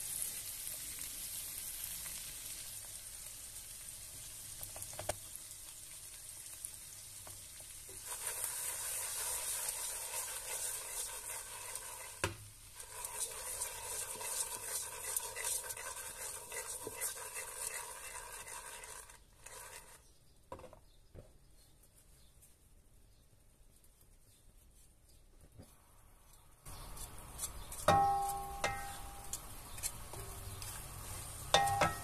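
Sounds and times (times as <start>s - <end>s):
onions and meat sizzling in oil: 0.0s - 20.0s, 25.7s - 32.0s.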